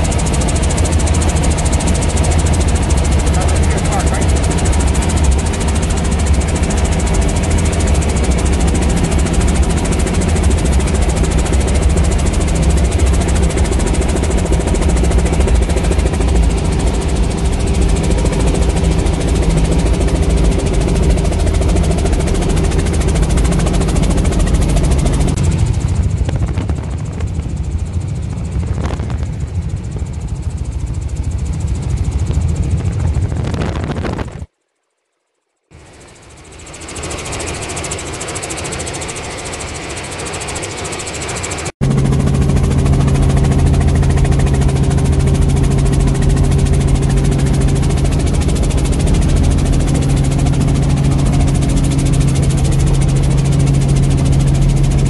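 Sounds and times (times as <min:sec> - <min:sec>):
helicopter engine and rotor drone: 0:00.0 - 0:34.5, 0:35.7 - 0:55.0.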